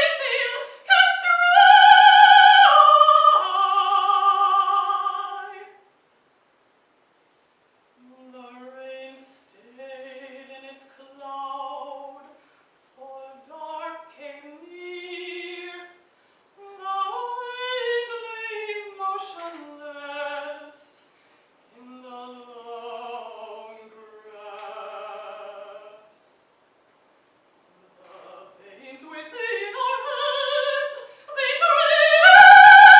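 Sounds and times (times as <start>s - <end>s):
woman singing classical song: 0.0s - 5.8s, 8.0s - 26.5s, 27.8s - 32.9s.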